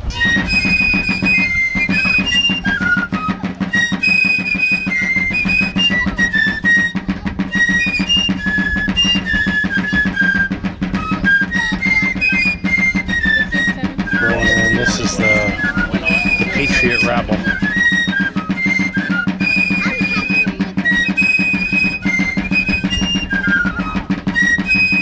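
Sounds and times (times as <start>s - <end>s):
drumming: 0.0s - 25.0s
fife melody: 0.0s - 25.0s.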